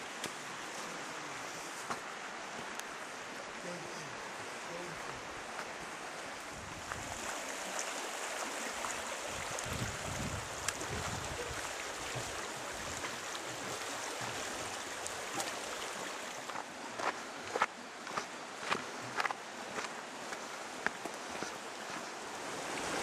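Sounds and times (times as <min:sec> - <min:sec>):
river rushing over stones: 0:00.0 - 0:23.0.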